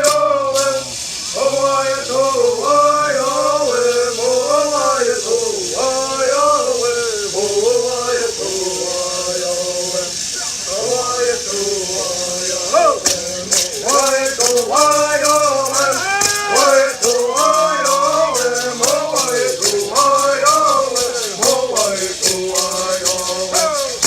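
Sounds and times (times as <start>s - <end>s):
men singing in unison: 0.0s - 24.0s
steady high hiss: 0.0s - 24.0s.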